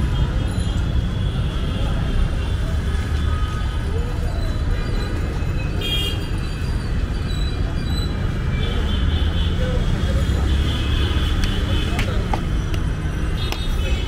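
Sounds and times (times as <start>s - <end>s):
passing vehicles rumbling: 0.0s - 14.0s.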